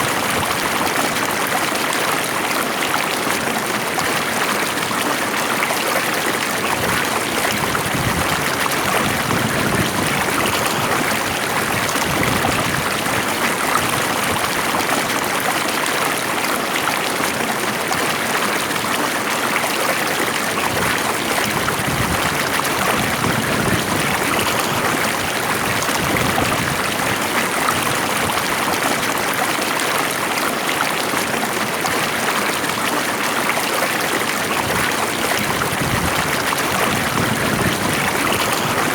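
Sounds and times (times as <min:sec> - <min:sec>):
water flowing in a stream: 0:00.0 - 0:38.9.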